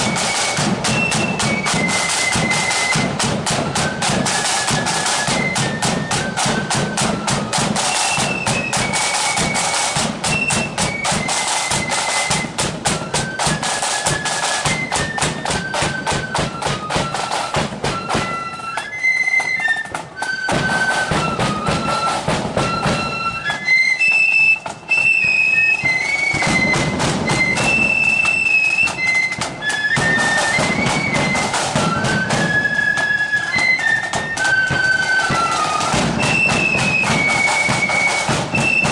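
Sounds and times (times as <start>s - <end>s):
flutes playing a tune: 0.0s - 38.9s
side drum beating: 0.0s - 38.9s.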